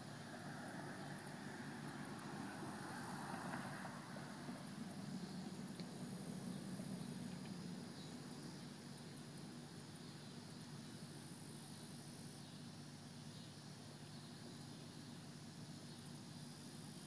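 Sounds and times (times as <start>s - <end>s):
insect buzz: 0.0s - 17.0s
steady low hum: 0.0s - 17.0s.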